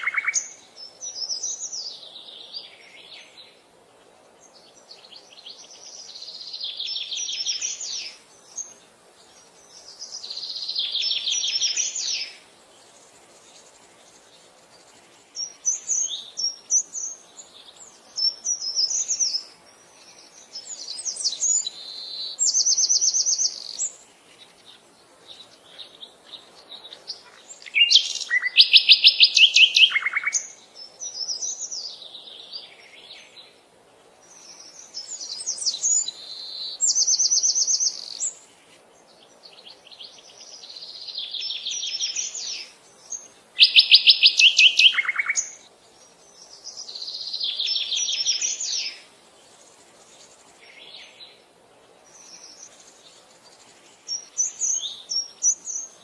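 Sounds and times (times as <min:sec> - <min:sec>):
songbirds singing trills: 0:00.0 - 0:56.0.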